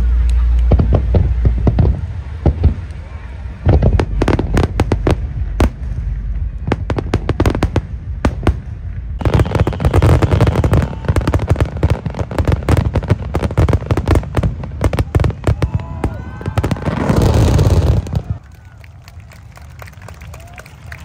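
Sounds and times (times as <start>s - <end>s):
fireworks bangs and crackles: 0.0s - 19.6s.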